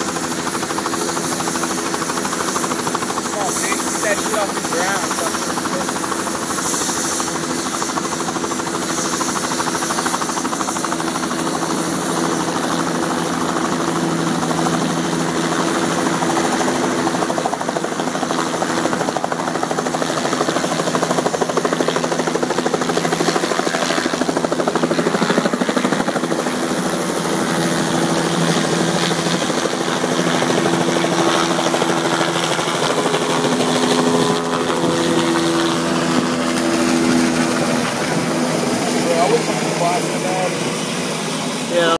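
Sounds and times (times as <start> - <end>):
helicopter rotor beat and engine: 0.0 - 41.9.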